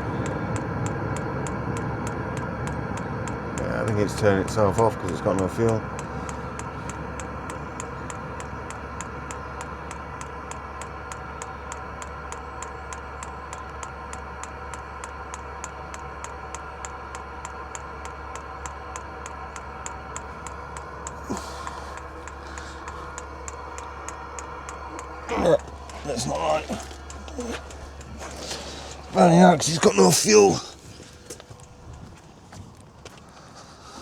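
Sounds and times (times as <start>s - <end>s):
fuel pump ticking: 0.0s - 34.0s
heater blower fan hum: 0.0s - 34.0s.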